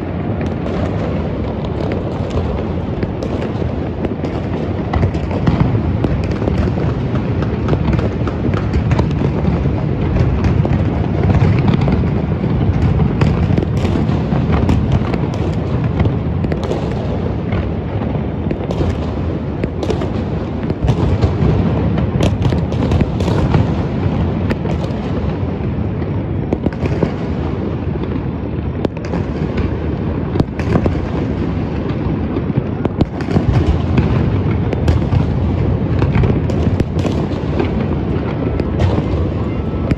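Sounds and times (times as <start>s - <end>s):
firecracker cracks and pops: 0.0s - 39.9s
fireworks booming: 0.0s - 39.9s.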